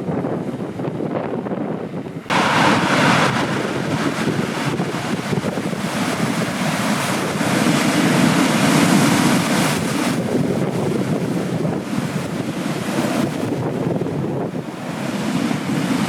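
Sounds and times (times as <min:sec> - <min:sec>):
wind buffeting microphone: 0:00.0 - 0:16.0
ocean surf breaking: 0:02.3 - 0:16.0.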